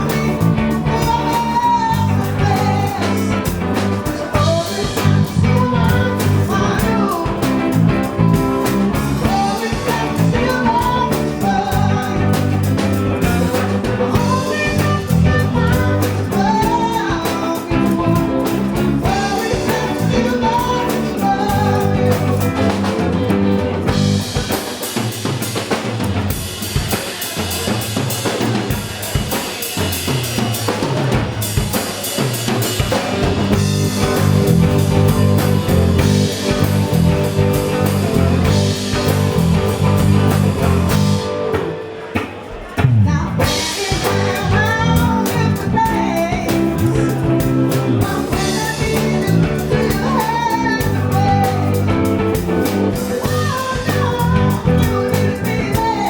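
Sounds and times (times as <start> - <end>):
bending guitar melody: 0.0 - 26.9, 32.6 - 56.0
bass guitar: 0.0 - 56.0
drum kit: 0.0 - 56.0.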